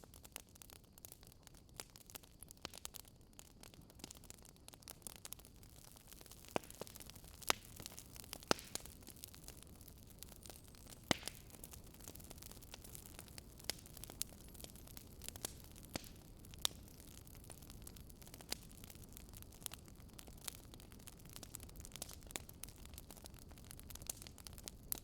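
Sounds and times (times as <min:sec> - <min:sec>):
campfire crackling: 0:00.0 - 0:25.0
low hiss of fire: 0:00.0 - 0:25.0.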